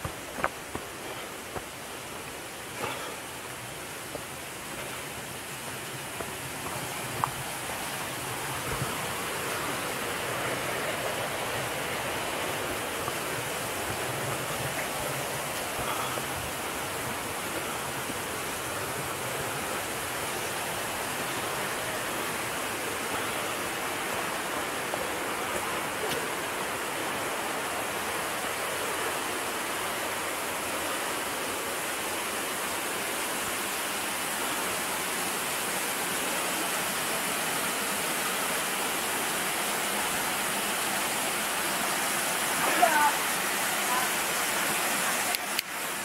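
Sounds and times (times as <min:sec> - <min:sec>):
water flowing: 0:00.0 - 0:46.0.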